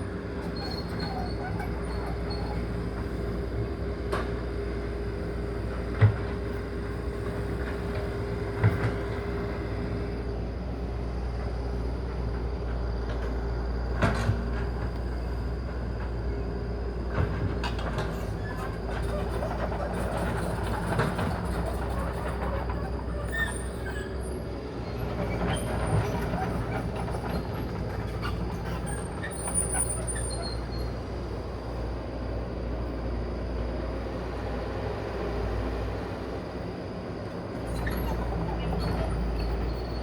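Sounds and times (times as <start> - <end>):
heavy machinery rumbling: 0.0 - 40.0.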